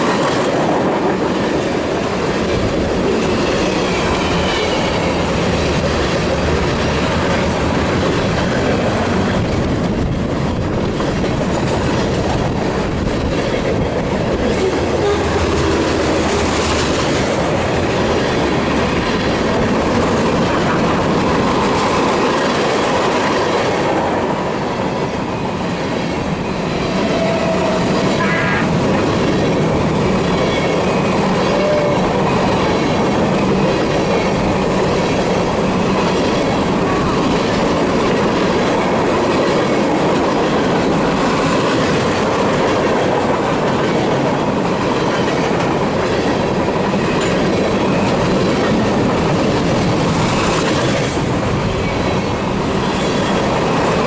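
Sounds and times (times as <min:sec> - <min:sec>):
clickety-clack over rail joints: 0:00.0 - 0:54.0
freight train rumbling: 0:00.0 - 0:54.0.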